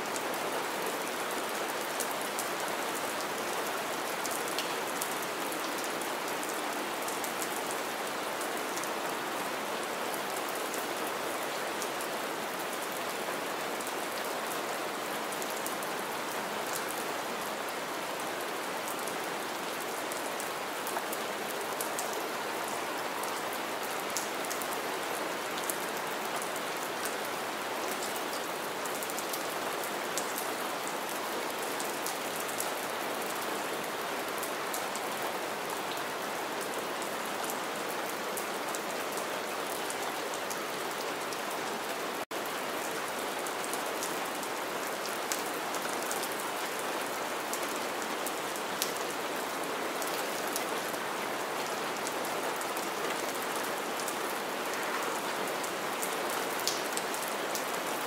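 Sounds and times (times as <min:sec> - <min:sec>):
steady rain on wet ground: 0:00.0 - 0:58.0.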